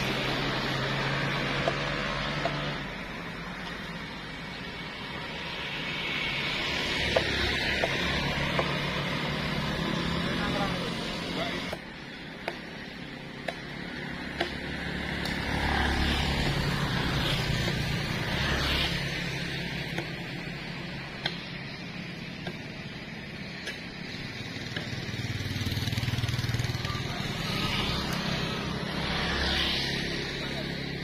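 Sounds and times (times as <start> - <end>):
cars and motorcycles passing: 0.0 - 31.0.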